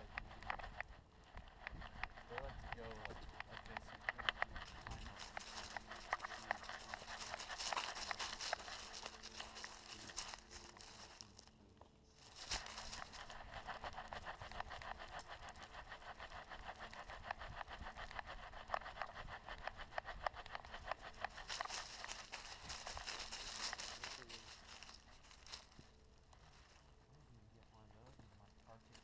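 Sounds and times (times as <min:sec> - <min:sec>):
crackling and rustling: 0:00.0 - 0:29.0.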